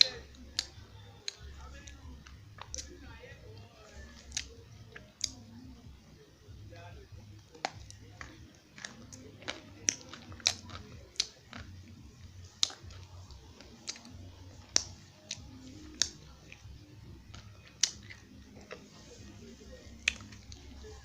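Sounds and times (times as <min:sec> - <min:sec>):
crisp cracks of chewing clay: 0:00.0 - 0:06.0, 0:06.6 - 0:21.0
soft mouth sounds: 0:00.0 - 0:21.0.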